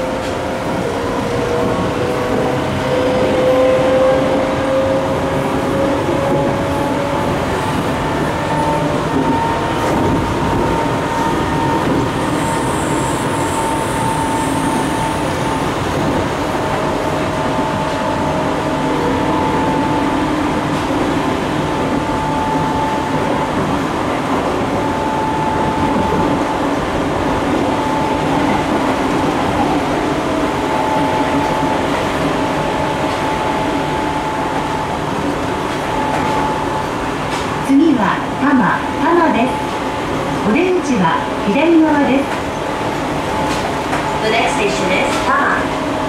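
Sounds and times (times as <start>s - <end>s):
wheels rumbling on rails: 0.0s - 46.0s.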